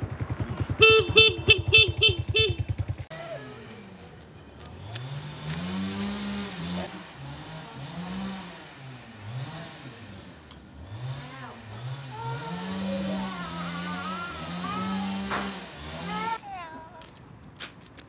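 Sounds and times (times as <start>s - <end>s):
vehicle engine revving: 0.0s - 16.4s.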